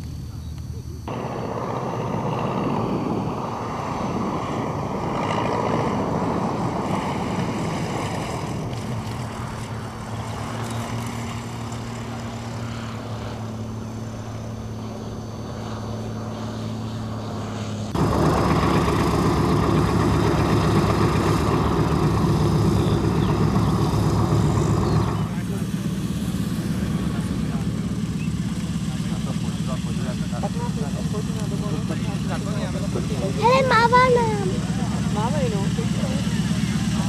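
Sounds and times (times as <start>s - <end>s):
aircraft engine running rhythmically: 0.0s - 37.0s
light aircraft engines humming: 0.0s - 37.0s.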